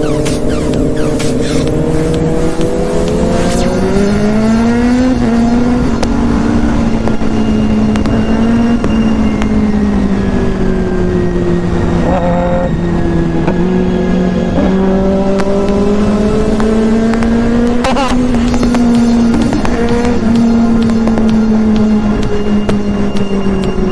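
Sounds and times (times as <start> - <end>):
wind rushing: 0.0 - 22.7
motorcycle engine: 0.0 - 23.9.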